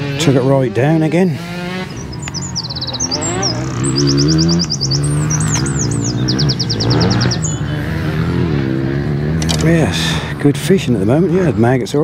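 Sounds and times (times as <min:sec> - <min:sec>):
songbird singing: 0:00.0 - 0:12.0
vehicle engine drone: 0:00.0 - 0:12.0.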